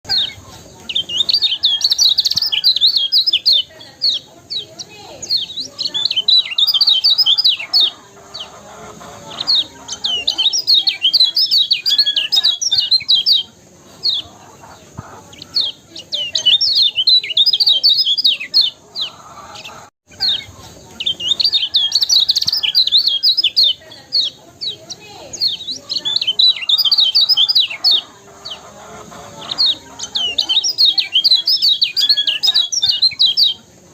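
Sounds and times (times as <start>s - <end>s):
bird twittering chirps: 0.1s - 33.8s.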